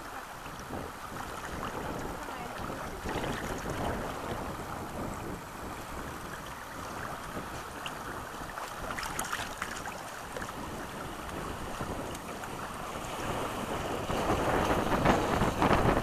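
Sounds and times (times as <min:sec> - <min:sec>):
river water rushing: 0:00.0 - 0:16.0
wind rumbling on microphone: 0:00.0 - 0:16.0.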